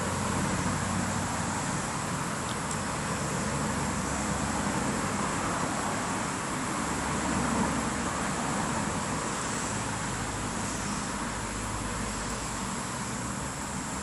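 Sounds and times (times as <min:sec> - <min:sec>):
constant high hiss: 0:00.0 - 0:14.0
road traffic hum: 0:00.0 - 0:14.0.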